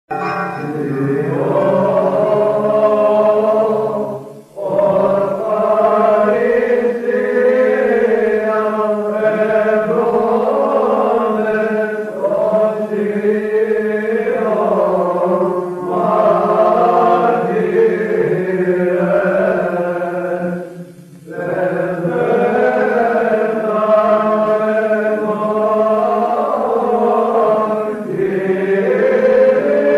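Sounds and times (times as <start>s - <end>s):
men chanting with low drone: 0.5s - 29.9s.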